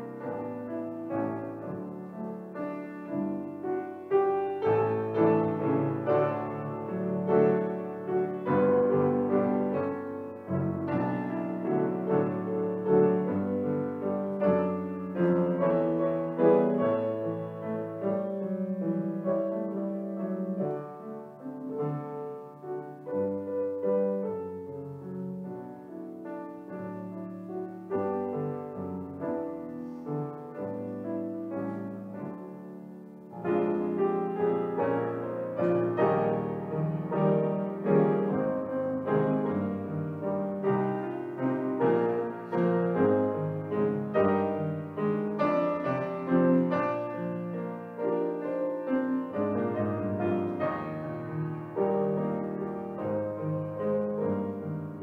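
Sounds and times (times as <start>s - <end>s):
slow classical piano piece: 0.0s - 55.0s.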